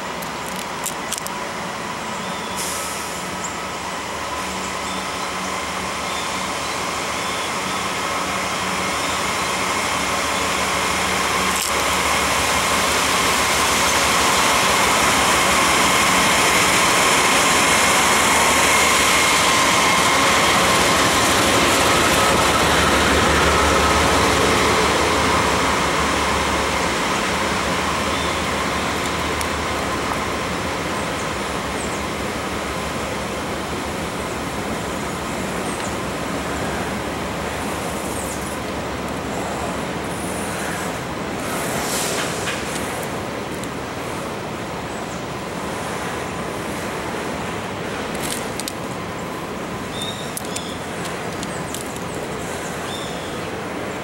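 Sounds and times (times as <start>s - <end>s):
diesel locomotive engines: 0.0s - 54.0s
train wheels on rails: 0.0s - 54.0s.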